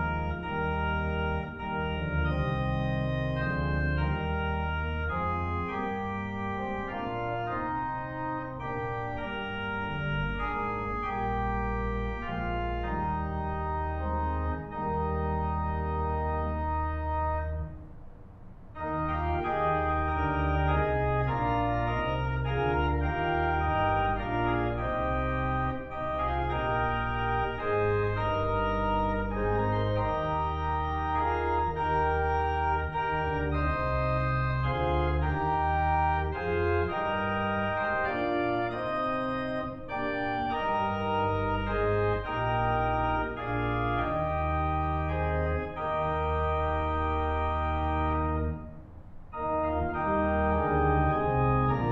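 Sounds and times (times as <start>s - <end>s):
organ playing slow chords: 0.0s - 51.9s.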